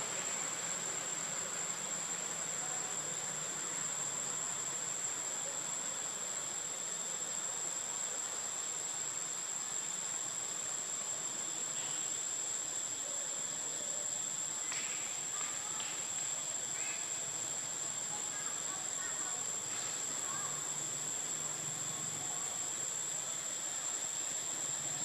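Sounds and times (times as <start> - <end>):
faint outdoor hiss: 0.0 - 25.0
high-pitched insect drone: 0.0 - 25.0.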